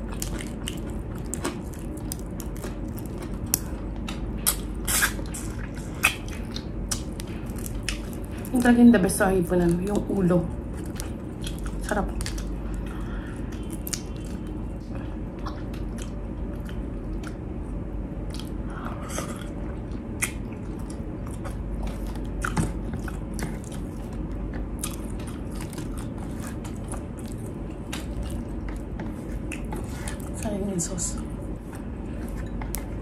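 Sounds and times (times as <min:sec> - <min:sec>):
person chewing crunchy food: 0:00.0 - 0:08.8, 0:10.5 - 0:33.0.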